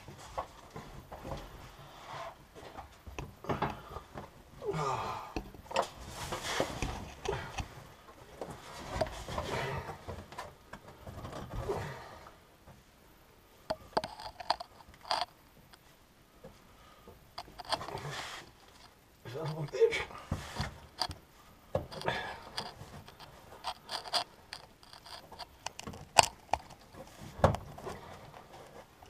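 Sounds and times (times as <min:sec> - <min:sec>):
hands scraping and rattling wiring: 0:00.0 - 0:04.7, 0:05.3 - 0:12.9, 0:13.6 - 0:29.0.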